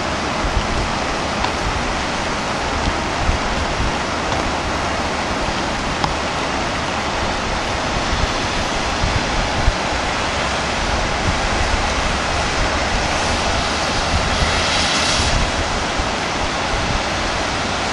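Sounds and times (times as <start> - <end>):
distant train rumble: 0.0 - 17.9
outdoor hiss: 0.0 - 17.9.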